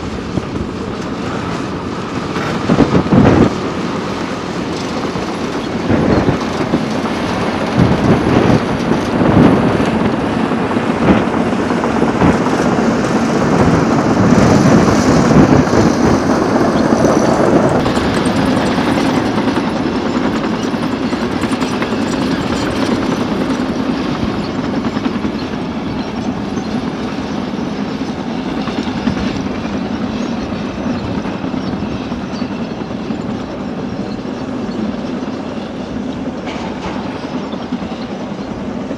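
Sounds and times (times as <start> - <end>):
diesel engine running under load: 0.0 - 38.9
machinery rattling and clanking: 0.0 - 38.9.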